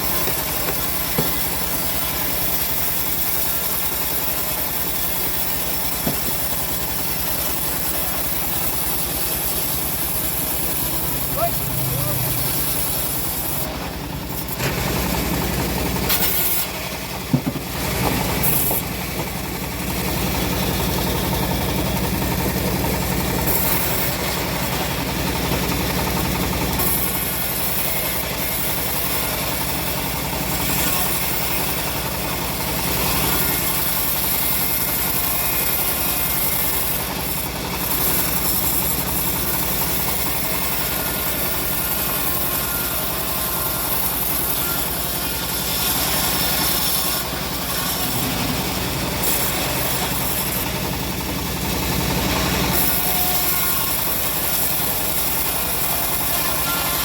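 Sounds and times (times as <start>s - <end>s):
bandsaw mill engine running: 0.0s - 57.0s.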